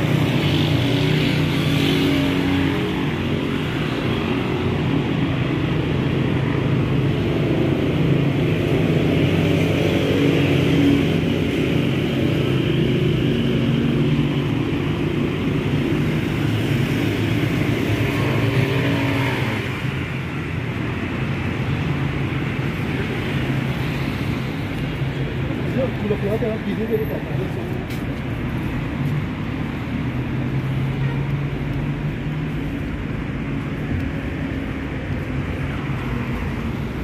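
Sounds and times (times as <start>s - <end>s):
car and motorcycle engines: 0.0s - 37.0s
traffic noise: 0.0s - 37.0s.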